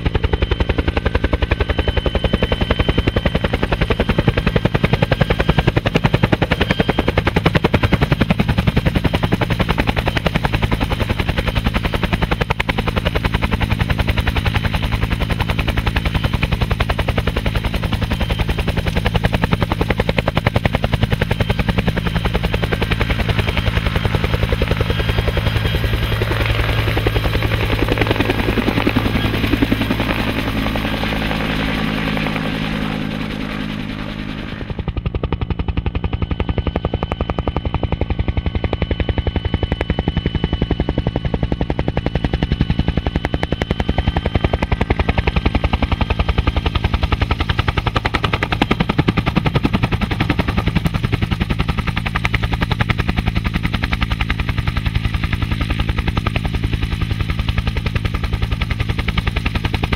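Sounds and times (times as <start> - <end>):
helicopter rotor thumping: 0.0 - 59.9
thin steady whine: 0.0 - 59.9
turbine engine: 0.0 - 59.9.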